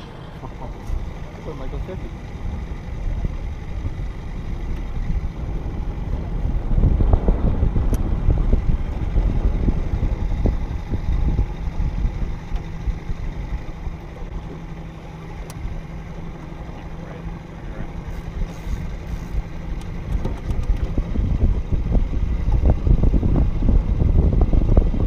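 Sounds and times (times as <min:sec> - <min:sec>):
muffled underwater rumble: 0:00.0 - 0:25.0
steady low hum: 0:00.0 - 0:25.0.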